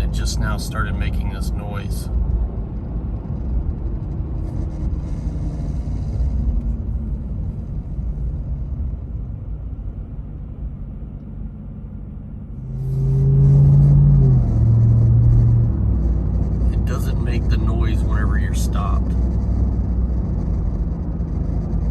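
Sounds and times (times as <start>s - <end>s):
loud low humming drone: 0.0s - 21.9s
low vehicle cabin rumble: 0.0s - 21.9s.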